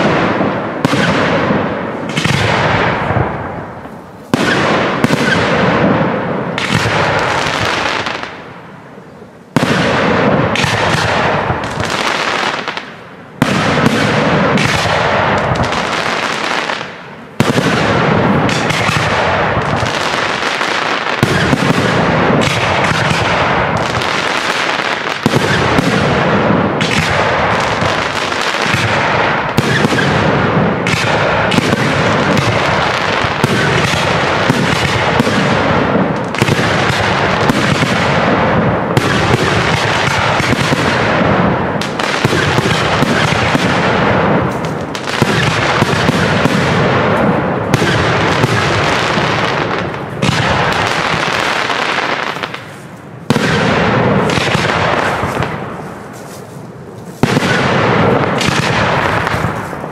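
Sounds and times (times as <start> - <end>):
firework shells bursting: 9.6 - 41.2, 41.8 - 59.9.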